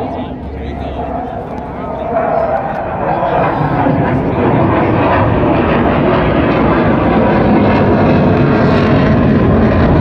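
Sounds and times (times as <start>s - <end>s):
jet aircraft flying over: 0.0s - 10.0s.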